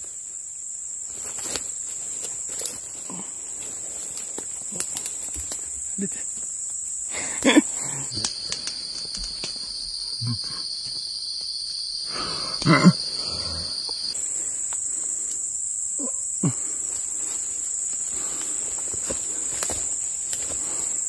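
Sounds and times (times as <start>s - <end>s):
high-pitched insect drone: 0.0s - 21.0s
lower-pitched insect drone: 0.0s - 21.0s.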